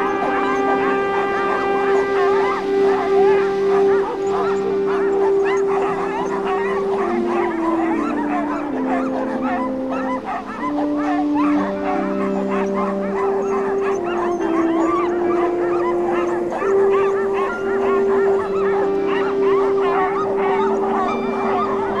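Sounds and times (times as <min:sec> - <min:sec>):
music with long held notes: 0:00.0 - 0:22.0
sled dogs barking and howling: 0:00.0 - 0:22.0.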